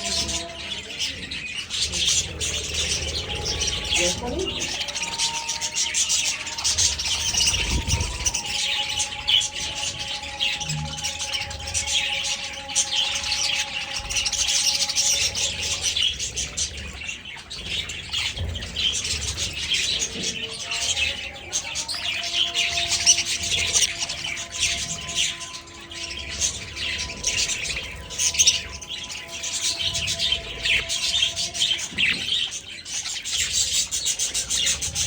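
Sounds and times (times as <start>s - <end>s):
flock of budgerigars chattering: 0.0s - 35.0s.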